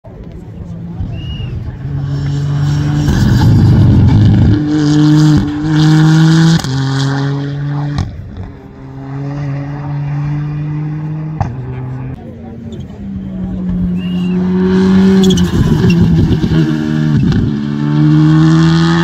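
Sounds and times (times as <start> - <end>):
rally car engine revving: 0.1 - 19.0.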